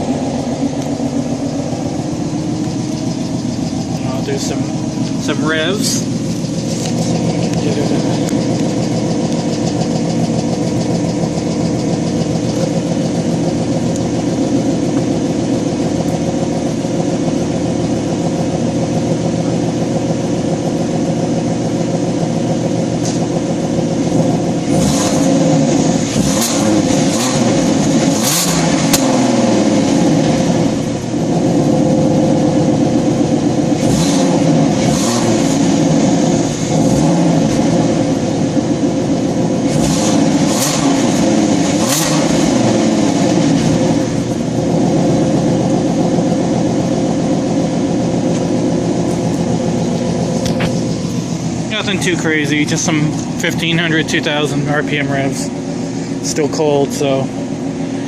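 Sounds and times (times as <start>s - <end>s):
car engine idling: 0.0s - 58.0s
engine revving: 0.0s - 58.0s.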